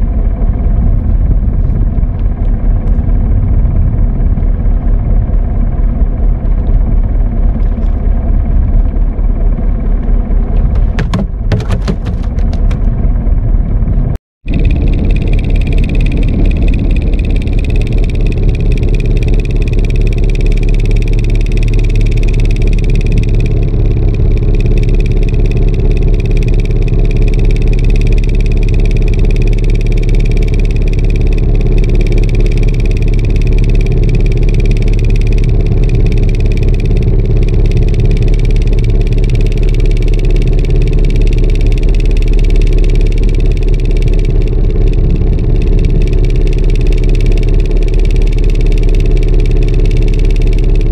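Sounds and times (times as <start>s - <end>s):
boat engine throbbing: 0.0s - 50.9s.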